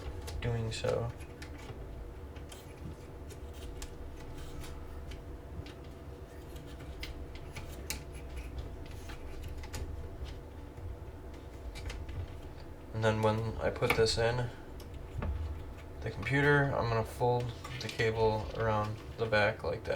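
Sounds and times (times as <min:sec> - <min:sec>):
faint steady hum: 0:00.0 - 0:19.9.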